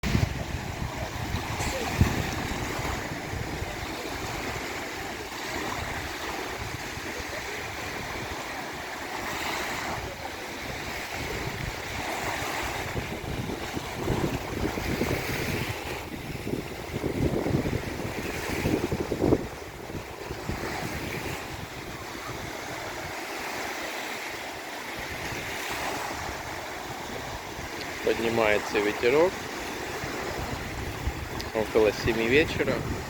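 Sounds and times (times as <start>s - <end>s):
sea surf washing in: 0.0s - 33.0s
wind buffeting microphone: 0.0s - 33.0s.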